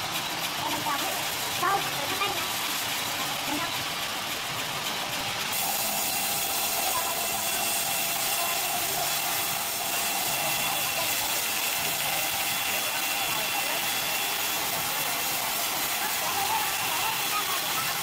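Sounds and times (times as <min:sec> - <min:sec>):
band saw cutting timber: 0:00.0 - 0:18.0.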